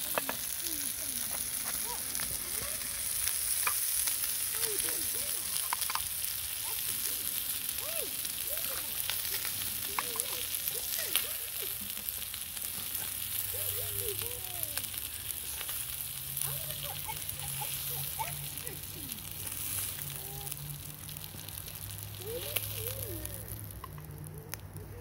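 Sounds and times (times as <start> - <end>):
meat sizzling on hot stone: 0.0 - 25.0.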